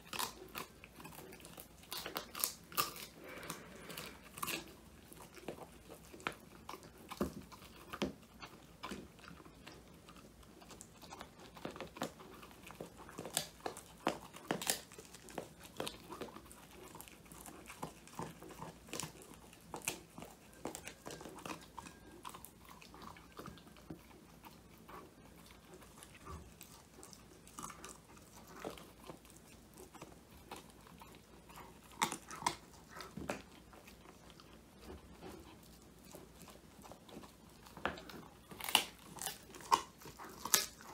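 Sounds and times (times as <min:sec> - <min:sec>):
dog chewing with crunches: 0:00.0 - 0:40.9.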